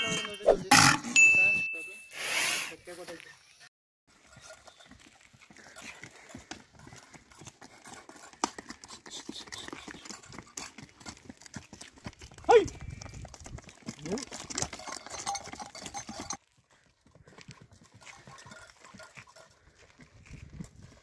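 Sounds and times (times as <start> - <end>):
hooves clopping on pavement: 4.1 - 21.0.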